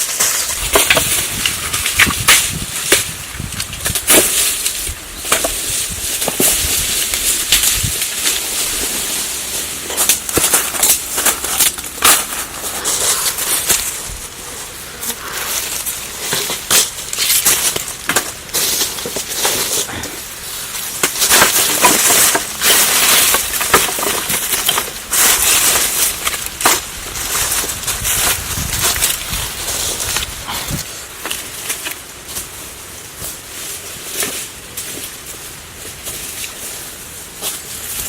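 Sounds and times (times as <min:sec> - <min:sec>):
dry leaves and twigs crackling: 0:00.0 - 0:38.0.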